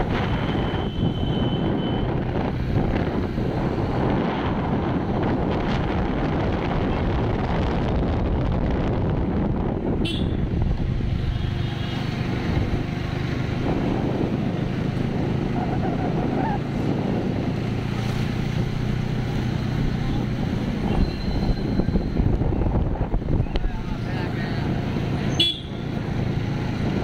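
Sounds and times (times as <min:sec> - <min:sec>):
vehicle engine and road drone: 0:00.0 - 0:27.0
wind rushing over microphone: 0:00.0 - 0:27.0.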